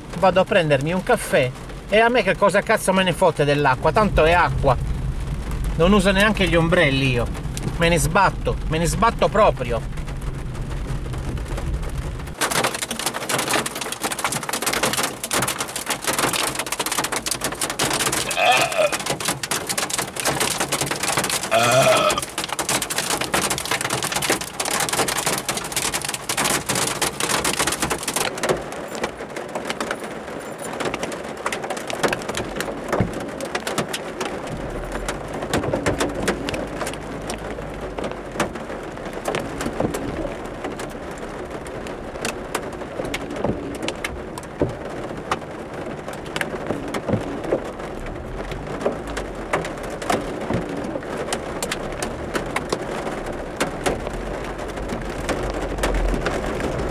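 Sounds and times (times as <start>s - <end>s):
heavy rain on a car roof: 0.0s - 56.9s.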